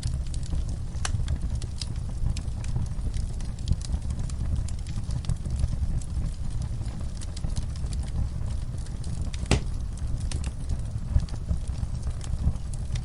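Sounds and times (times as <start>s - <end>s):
fire crackling and popping: 0.0s - 13.0s
fire flames rumbling: 0.0s - 13.0s.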